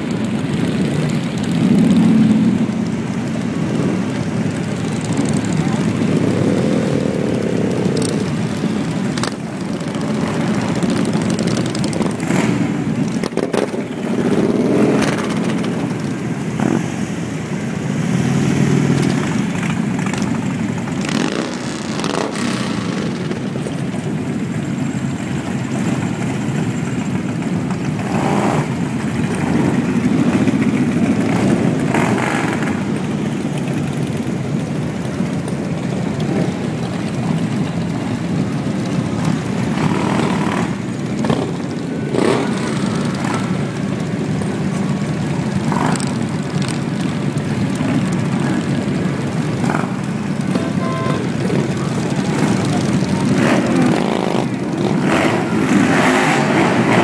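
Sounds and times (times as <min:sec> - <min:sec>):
motorcycles riding past: 0:00.0 - 0:57.0.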